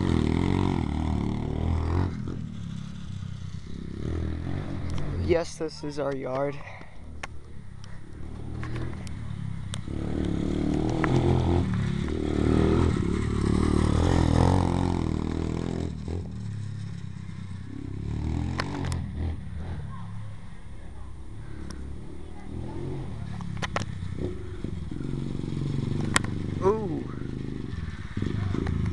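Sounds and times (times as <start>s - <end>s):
motorbike engine revving past: 0.0s - 5.5s, 7.9s - 20.6s, 21.3s - 28.9s.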